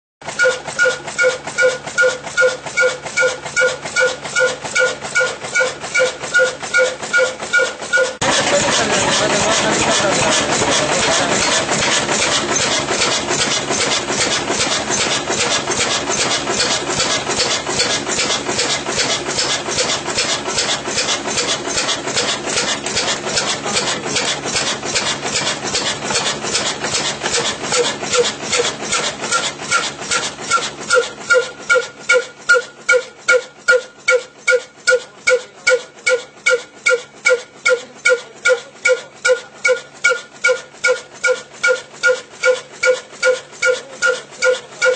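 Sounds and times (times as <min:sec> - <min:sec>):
diesel engine exhaust puffing: 0:00.2 - 0:44.9.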